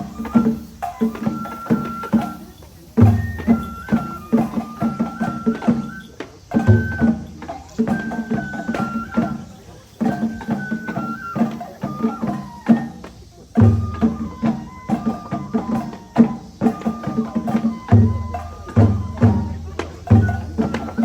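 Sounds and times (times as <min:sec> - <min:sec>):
high flute melody: 0:00.0 - 0:21.0
steady drum strokes: 0:00.0 - 0:21.0.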